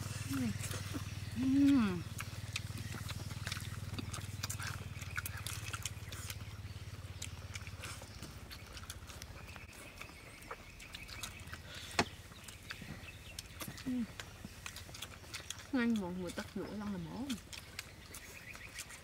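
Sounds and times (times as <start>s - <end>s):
chewing and lip-smacking: 0.0s - 19.0s
low steady hum: 0.0s - 19.0s.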